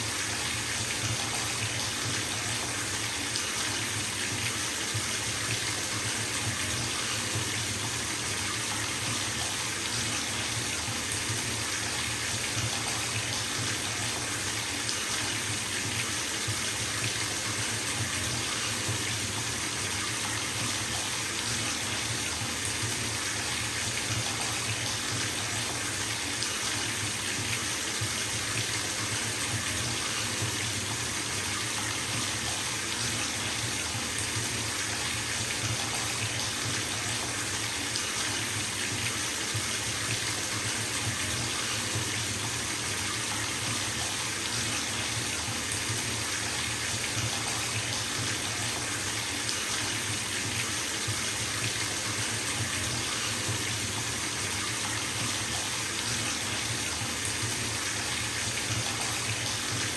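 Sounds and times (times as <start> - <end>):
water pouring into bathtub: 0.0 - 59.9.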